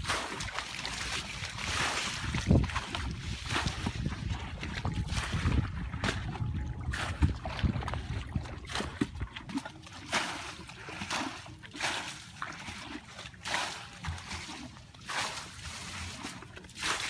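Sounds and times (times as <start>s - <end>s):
muddy water splashing: 0.0s - 17.0s.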